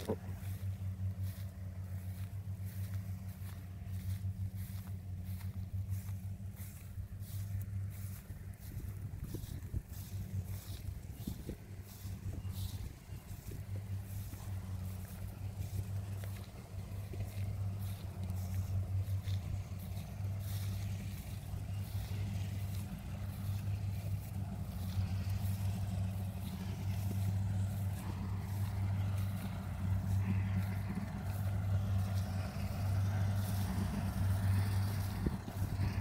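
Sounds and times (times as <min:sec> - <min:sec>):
combine harvester engine hum: 0:00.0 - 0:36.0.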